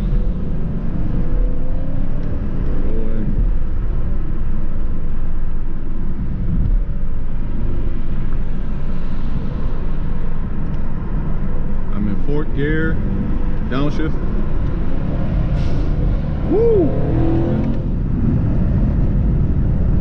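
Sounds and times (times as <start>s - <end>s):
car engine accelerating with upshifts: 0.0s - 12.3s, 12.9s - 20.0s.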